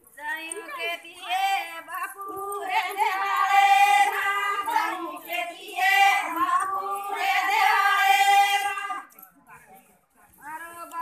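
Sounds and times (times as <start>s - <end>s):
women singing: 0.1s - 9.1s.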